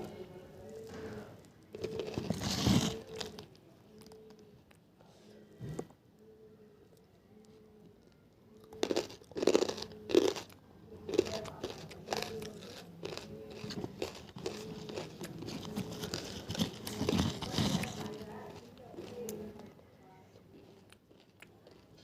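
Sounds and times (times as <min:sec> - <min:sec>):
crunchy chewing: 0:00.6 - 0:04.8, 0:06.9 - 0:22.0.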